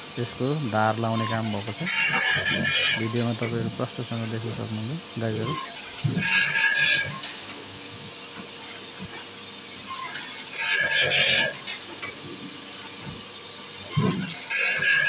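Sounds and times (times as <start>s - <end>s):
grinding wheel spinning: 0.0s - 15.0s
wheel grinding chain tooth: 0.4s - 3.6s, 5.1s - 7.6s, 8.2s - 15.0s.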